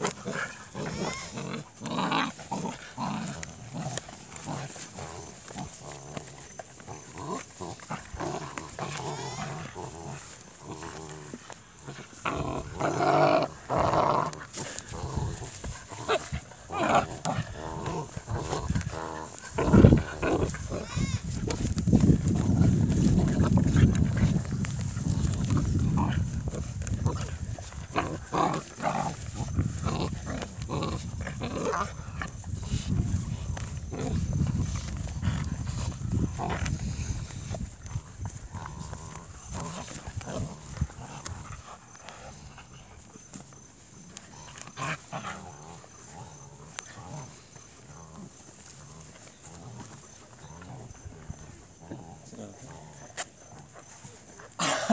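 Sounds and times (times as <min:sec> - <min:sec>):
puppies growling and yapping: 0:00.0 - 0:54.9.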